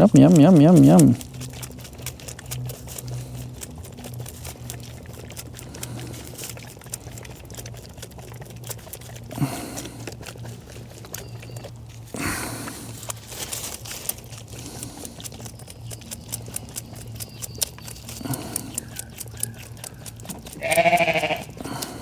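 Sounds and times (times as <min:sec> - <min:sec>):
lamb sucking from bottle: 0:00.0 - 0:22.0.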